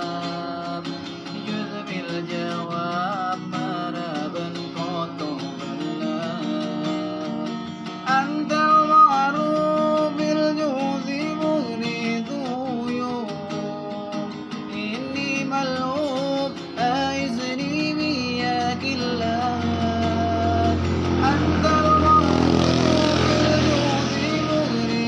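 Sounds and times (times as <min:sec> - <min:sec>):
man singing devotional song: 0:00.0 - 0:25.0
strummed acoustic guitar: 0:00.0 - 0:25.0.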